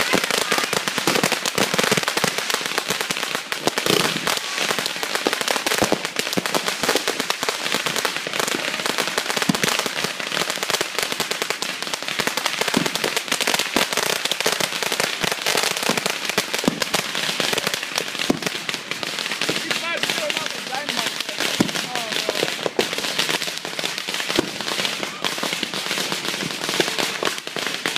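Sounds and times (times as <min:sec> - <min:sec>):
firecrackers crackling: 0:00.0 - 0:27.9.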